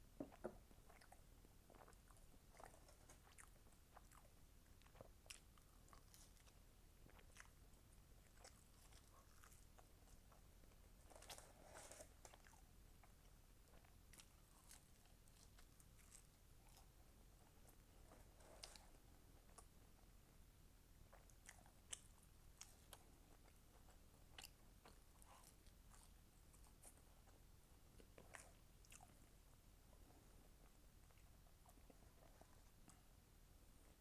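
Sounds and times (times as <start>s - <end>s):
chewing food: 0.2s - 20.1s, 21.1s - 33.2s.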